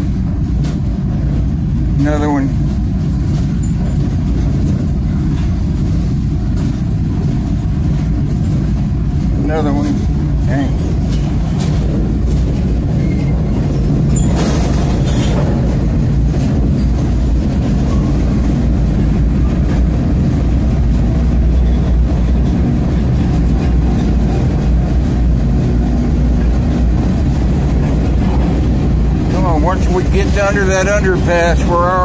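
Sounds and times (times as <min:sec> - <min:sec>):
freight train wheels rumbling: 0:00.0 - 0:32.0
train car clatter: 0:00.0 - 0:32.0.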